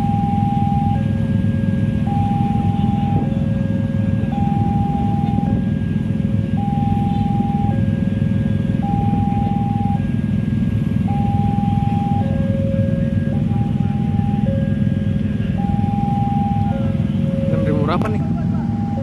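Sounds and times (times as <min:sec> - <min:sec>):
level crossing two-tone alarm: 0:00.0 - 0:10.2, 0:11.0 - 0:19.0
steady low rumble: 0:00.0 - 0:19.0.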